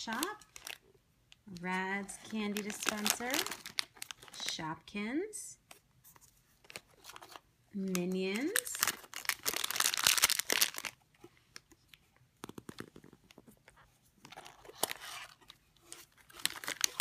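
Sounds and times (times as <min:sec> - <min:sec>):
plastic packaging crinkling: 0:00.0 - 0:04.6, 0:06.6 - 0:13.5, 0:14.2 - 0:17.0.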